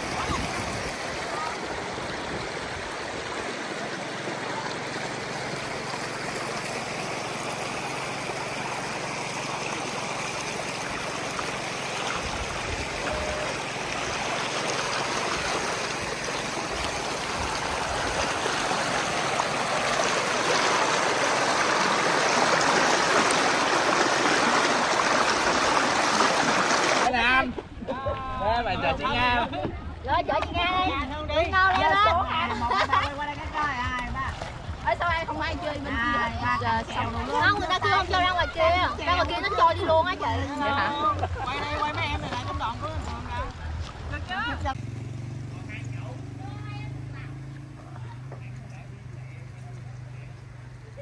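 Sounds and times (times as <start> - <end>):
rocky stream flowing: 0.0 - 27.2, 31.5 - 45.2.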